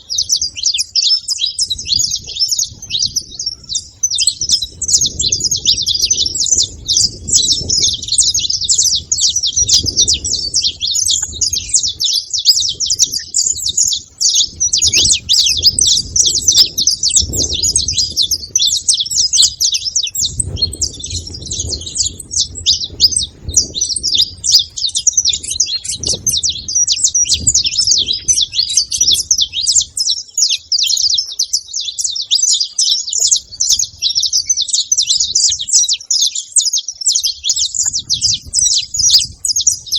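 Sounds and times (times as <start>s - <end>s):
finch chattering and twittering: 0.0s - 39.9s.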